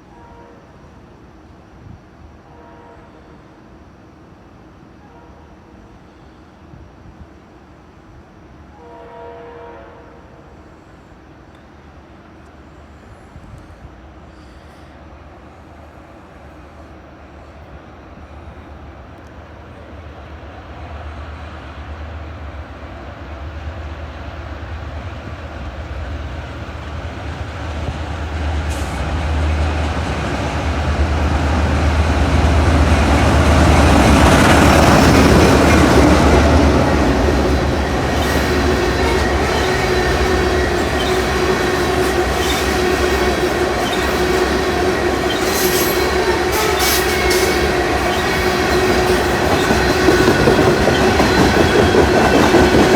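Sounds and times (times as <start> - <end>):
train passing: 0.0 - 52.9.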